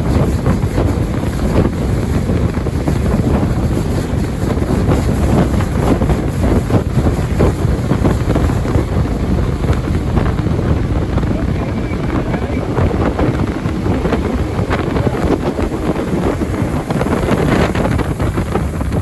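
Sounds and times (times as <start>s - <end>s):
jet boat running: 0.0s - 19.0s
wind buffeting microphone: 0.0s - 19.0s.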